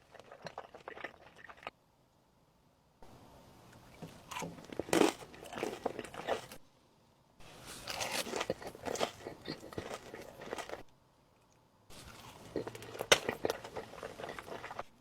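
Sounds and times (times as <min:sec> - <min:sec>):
biting and chewing food: 0:00.0 - 0:01.7, 0:03.8 - 0:06.6, 0:07.4 - 0:15.0.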